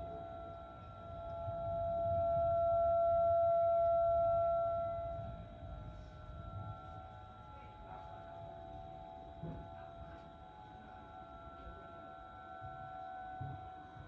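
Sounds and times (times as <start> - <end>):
tornado warning siren: 0.0 - 14.0.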